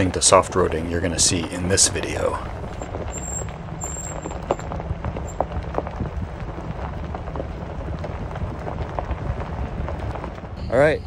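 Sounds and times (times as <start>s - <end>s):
gravel crackling under tyres: 0.0s - 11.0s
truck rumble from inside cab: 0.0s - 11.0s.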